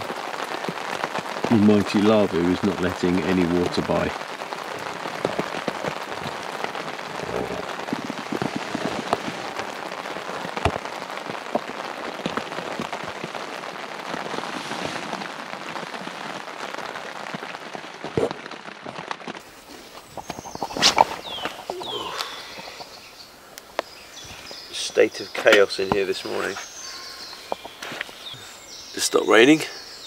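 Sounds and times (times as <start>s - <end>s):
rain on tent canvas: 0.0s - 30.0s.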